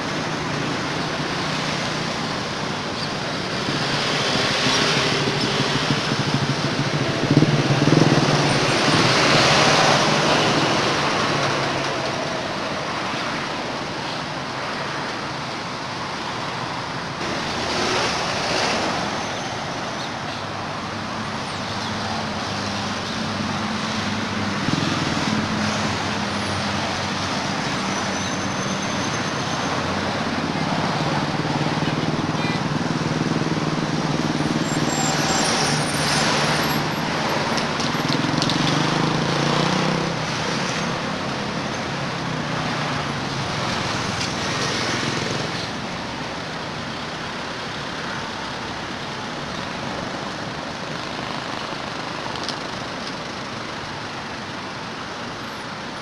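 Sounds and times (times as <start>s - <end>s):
road traffic hum: 0.0s - 56.0s
vehicles passing: 0.0s - 56.0s.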